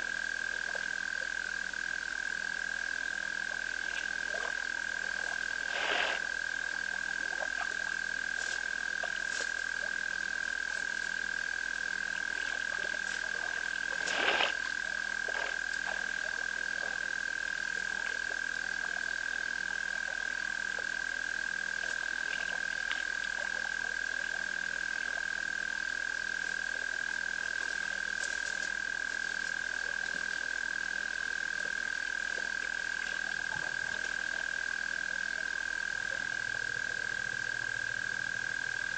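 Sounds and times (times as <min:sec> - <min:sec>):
frogs trilling: 0:00.0 - 0:38.9.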